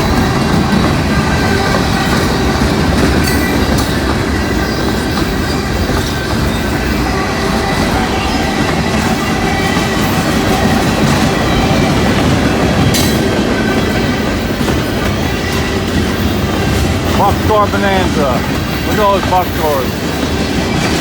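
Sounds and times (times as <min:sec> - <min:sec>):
rail clicks: 0:00.0 - 0:21.0
train wheels rumbling on rail: 0:00.0 - 0:21.0.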